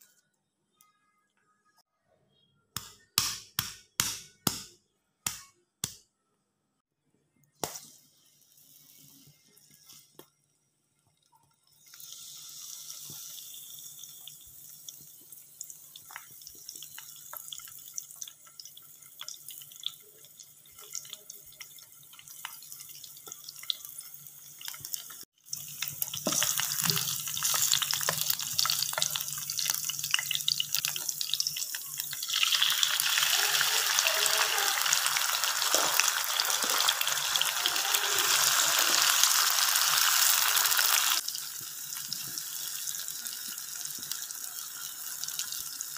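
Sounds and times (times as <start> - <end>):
oil sizzling in a frying pan: 7.6 - 10.2, 11.2 - 45.9.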